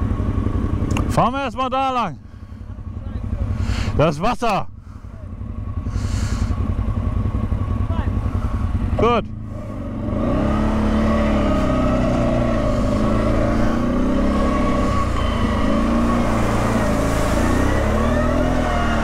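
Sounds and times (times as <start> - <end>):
off-road vehicle engine revving: 2.9 - 19.0.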